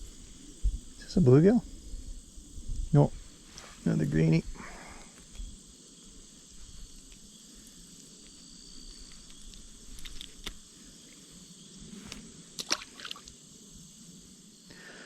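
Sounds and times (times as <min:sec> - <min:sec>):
crickets and insects chirring: 0:00.0 - 0:15.0.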